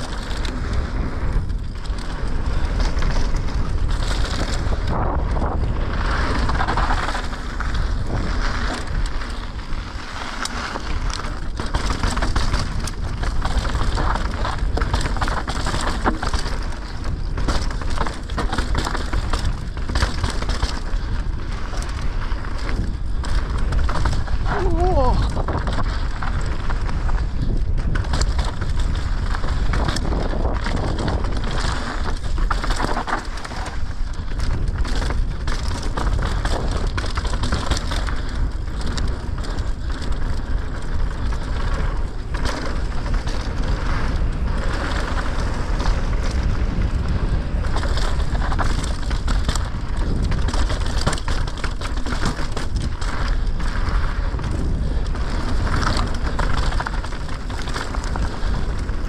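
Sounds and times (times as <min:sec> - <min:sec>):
bike knocking over stones: 0:00.0 - 0:59.0
bike tyres crunching on gravel: 0:00.0 - 0:59.0
wind rumble on microphone: 0:00.0 - 0:59.0.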